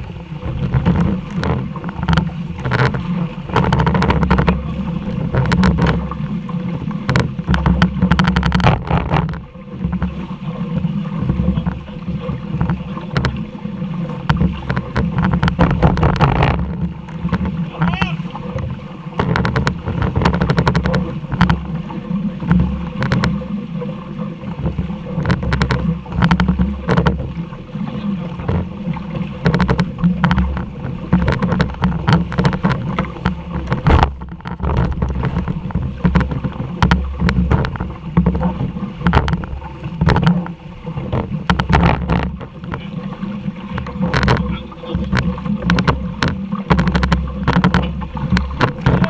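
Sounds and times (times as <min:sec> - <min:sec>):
boat knocks and water slaps: 0:00.0 - 0:49.0.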